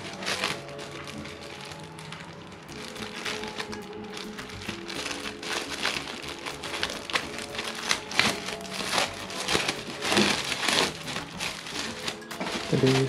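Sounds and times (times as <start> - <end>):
plastic bag crinkling: 0.0 - 13.0
soft background music: 0.0 - 13.0.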